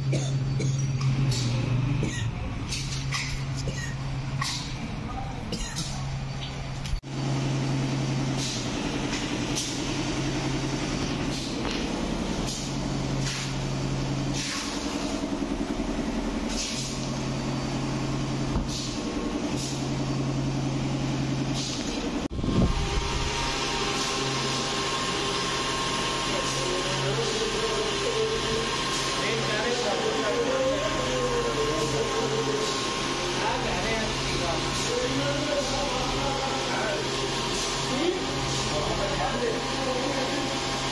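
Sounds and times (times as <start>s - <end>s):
motor hum: 6.2s - 40.9s.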